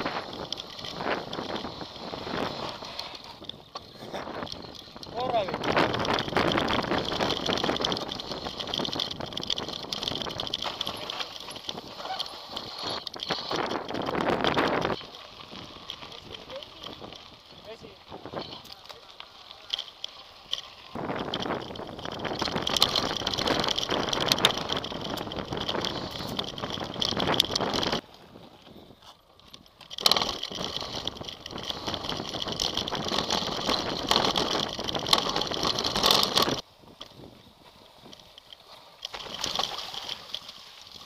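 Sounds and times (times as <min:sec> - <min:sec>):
wind on microphone: 0:00.0 - 0:18.7, 0:20.8 - 0:29.0, 0:30.0 - 0:38.2
bike tyres rolling: 0:00.0 - 0:41.0
mountain bike rattling: 0:00.0 - 0:41.0.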